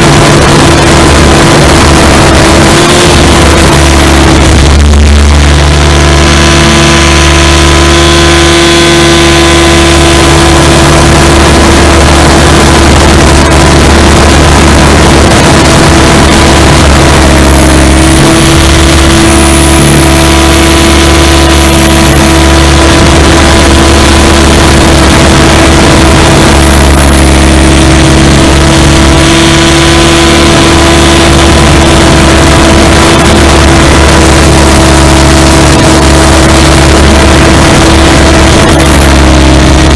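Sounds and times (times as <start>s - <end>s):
high motor whine: 0.0s - 39.9s
rotor wash and wind rumble: 0.0s - 39.9s.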